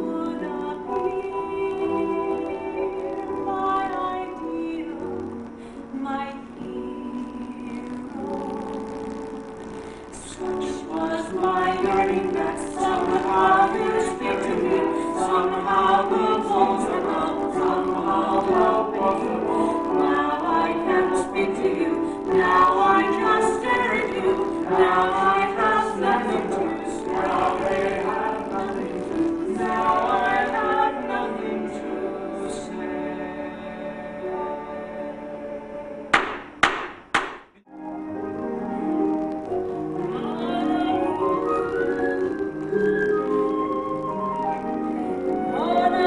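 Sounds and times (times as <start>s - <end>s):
voices singing show tune: 0.0s - 36.2s, 39.1s - 46.0s.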